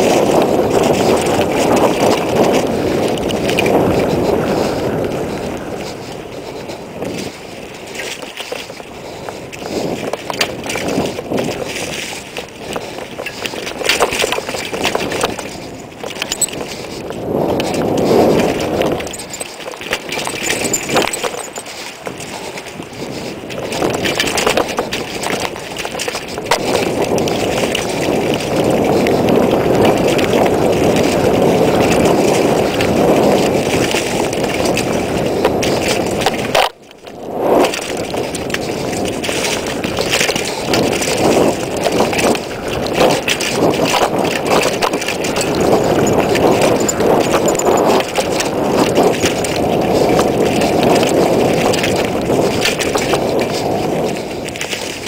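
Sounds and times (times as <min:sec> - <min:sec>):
bike rattling and knocking: 0:00.0 - 0:55.0
bike tyres rolling on dirt: 0:00.0 - 0:55.0
wind rush on microphone: 0:00.0 - 0:55.0.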